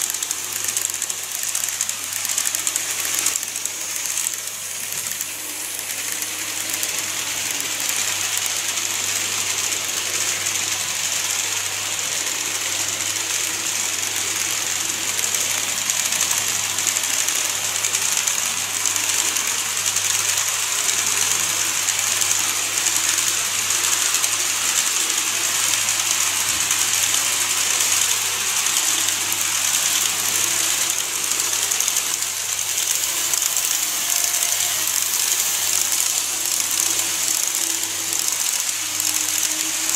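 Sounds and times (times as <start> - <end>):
model train motors whirring: 0.0 - 39.9.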